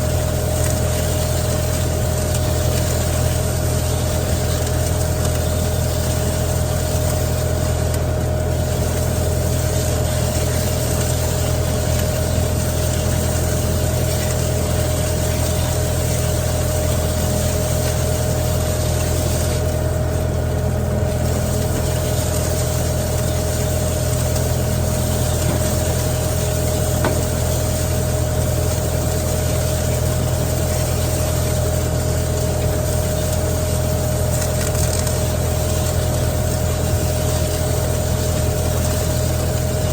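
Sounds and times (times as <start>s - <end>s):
steady mechanical whine: 0.0s - 39.9s
tractor engine running: 0.0s - 39.9s.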